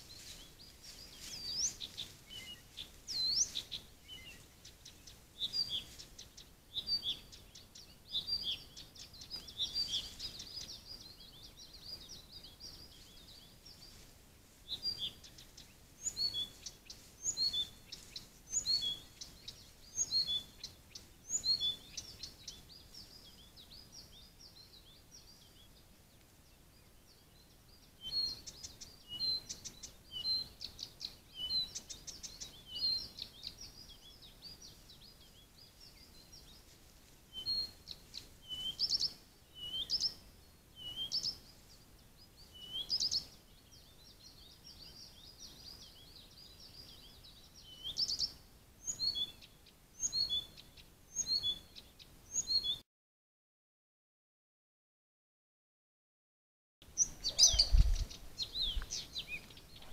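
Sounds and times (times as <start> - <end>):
faint steady hiss: 0.0 - 52.5, 56.8 - 59.9
songbirds chirping and trilling: 0.0 - 52.8, 56.8 - 59.9.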